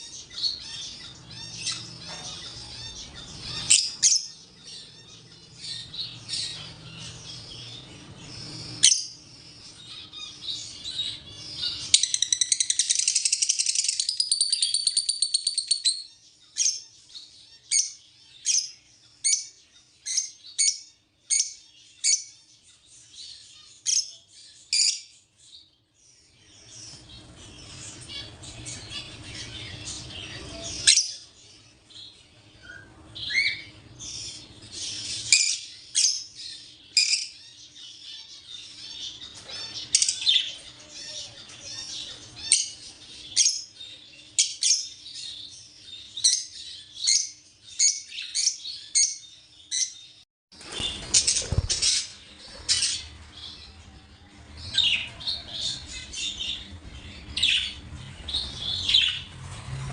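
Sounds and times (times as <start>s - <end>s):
rapid buzzy bird chatter: 0.0s - 59.9s
small birds chirping and squawking: 0.0s - 59.9s.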